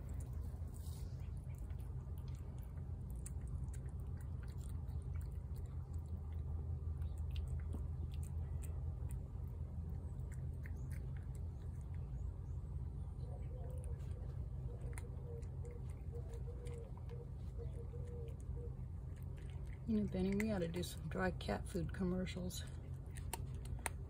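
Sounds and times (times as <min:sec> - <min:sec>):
cat chewing wet food: 0:00.0 - 0:22.0, 0:22.6 - 0:24.0
low background rumble: 0:00.0 - 0:24.0.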